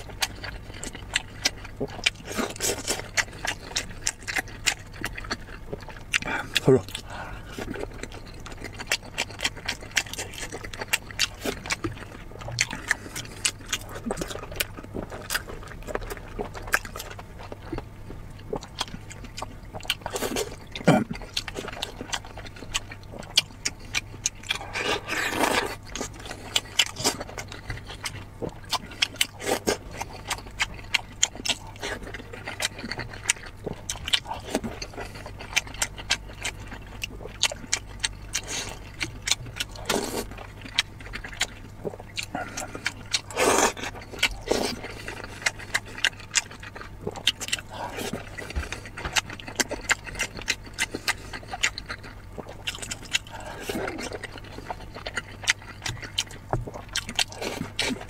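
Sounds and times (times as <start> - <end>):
low steady hum: 0.0 - 58.0
wet chewing and lip smacks: 0.0 - 58.0.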